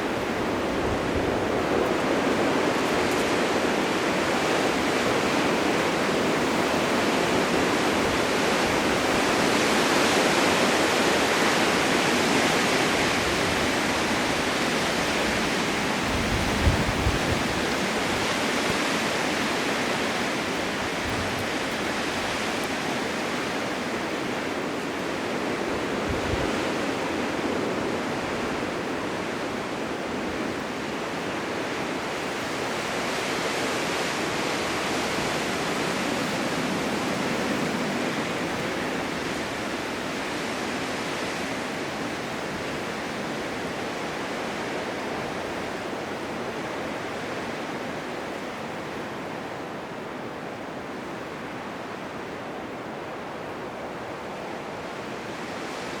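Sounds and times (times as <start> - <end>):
blizzard wind rushing: 0.0 - 56.0.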